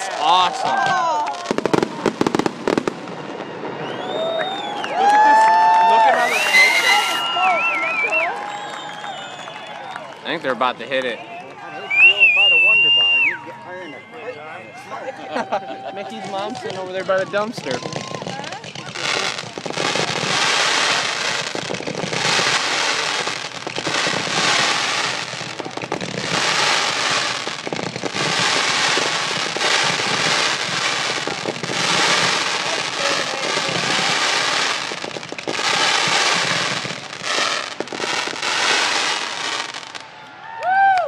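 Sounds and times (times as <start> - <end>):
fireworks bursting and crackling: 0.0 - 13.4, 15.0 - 41.0.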